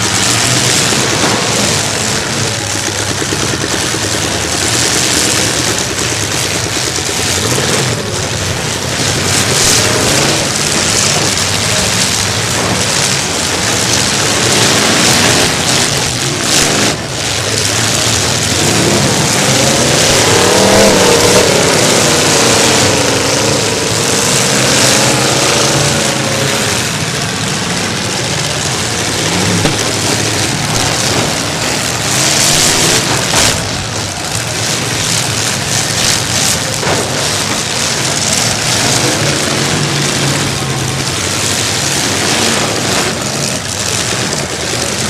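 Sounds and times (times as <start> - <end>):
car engines revving: 0.0 - 45.0
steady noise: 0.0 - 45.0.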